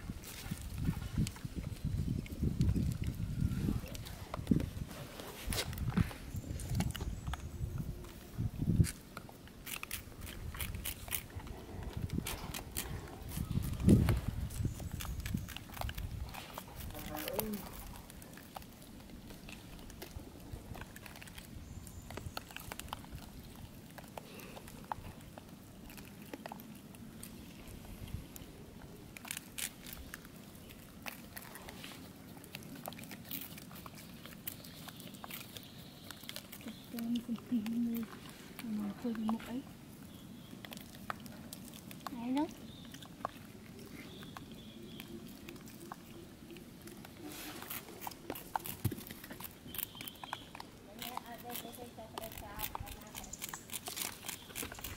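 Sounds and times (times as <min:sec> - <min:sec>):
rustle of dry leaves: 0:00.0 - 0:54.9.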